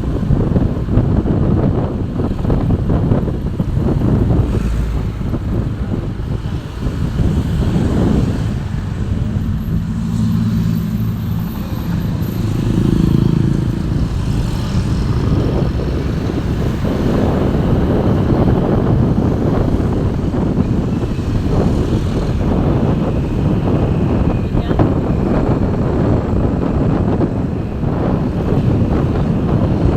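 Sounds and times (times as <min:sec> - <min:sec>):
road and wind noise: 0:00.0 - 0:29.9
vehicle engine hum passing: 0:01.5 - 0:29.9.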